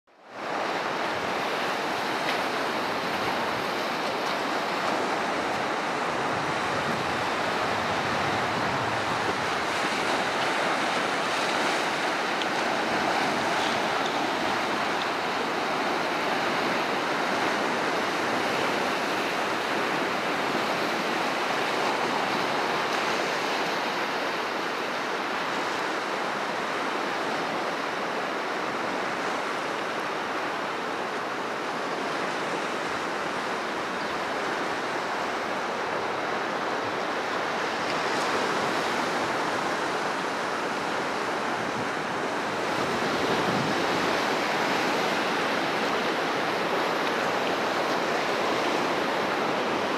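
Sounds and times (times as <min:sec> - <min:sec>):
wind: 0:00.0 - 0:49.9
surf washing over rocks: 0:00.1 - 0:49.9.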